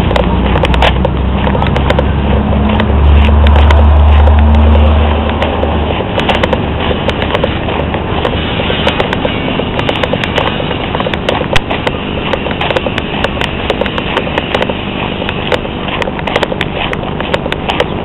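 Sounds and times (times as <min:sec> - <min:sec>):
footsteps on road: 0:00.0 - 0:18.0.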